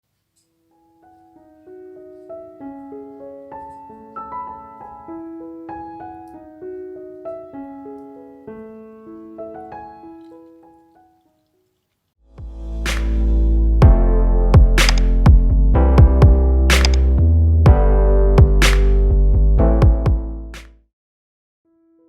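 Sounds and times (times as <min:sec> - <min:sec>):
gentle piano melody: 0:00.4 - 0:11.6, 0:12.4 - 0:20.6.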